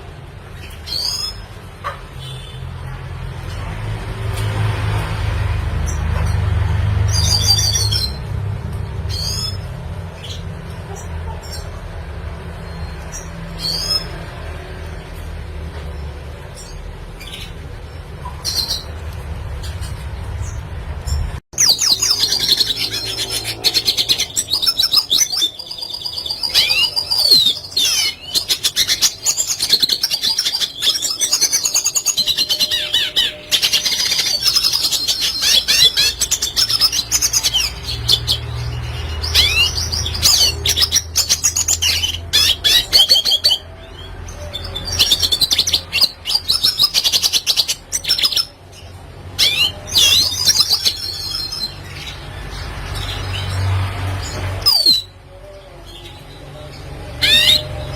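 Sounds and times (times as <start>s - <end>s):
bird twittering and warbling: 5.7s - 57.9s.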